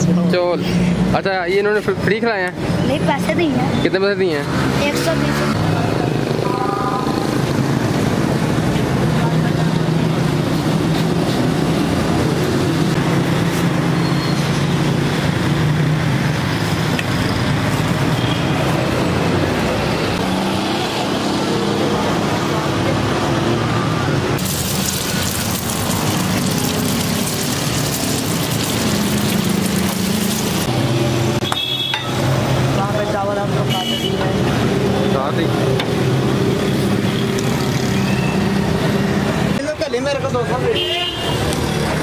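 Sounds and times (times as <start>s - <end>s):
street traffic hum: 0.0s - 42.0s.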